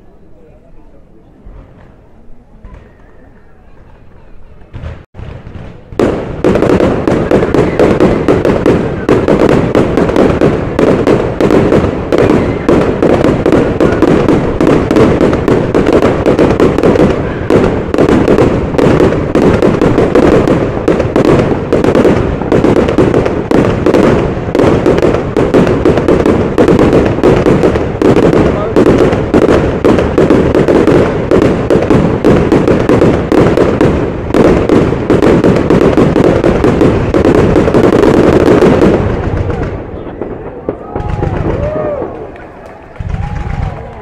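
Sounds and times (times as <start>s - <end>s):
fireworks bangs and crackling: 0.0s - 44.0s.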